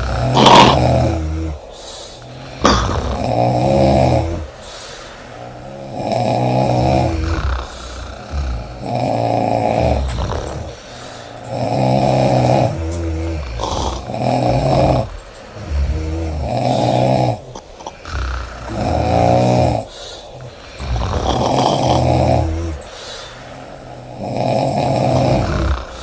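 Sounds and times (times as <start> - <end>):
woman snoring loudly: 0.0 - 26.0.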